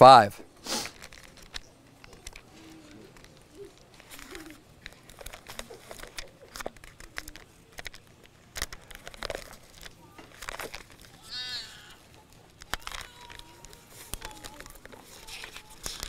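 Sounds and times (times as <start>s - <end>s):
pages turning: 0.6s - 16.0s.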